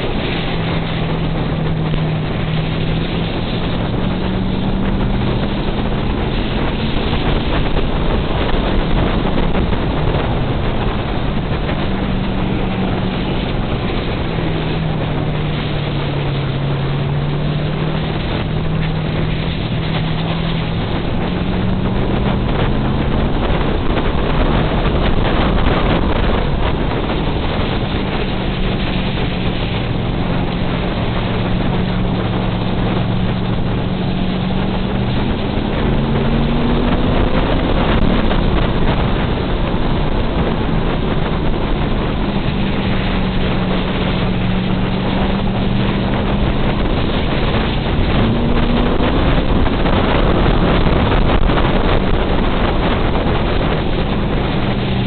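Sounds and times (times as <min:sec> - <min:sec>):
race car engine running hard: 0:00.0 - 0:55.0
wind and road noise: 0:00.0 - 0:55.0.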